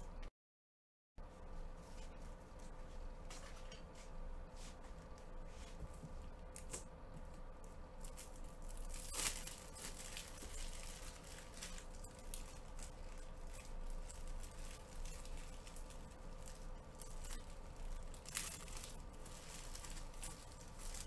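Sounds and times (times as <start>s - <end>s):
faint steady hum: 1.2s - 21.0s
crinkles and rustles: 1.7s - 21.0s.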